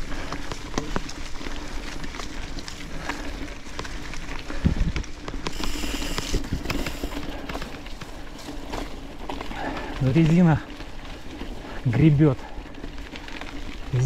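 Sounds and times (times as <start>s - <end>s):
bike tyres crunching on gravel: 0.0s - 14.0s
ticks of grit and pebbles: 0.0s - 14.0s.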